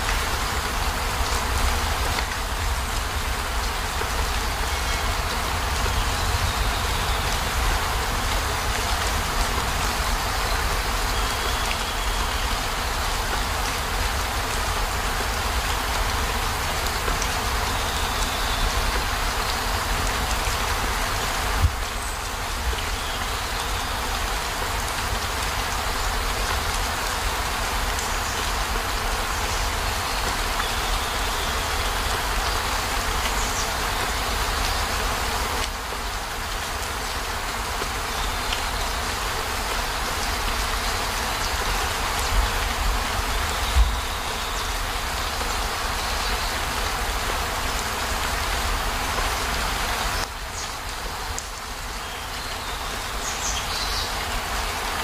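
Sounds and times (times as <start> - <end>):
heavy rain on a vehicle roof: 0.0 - 55.0.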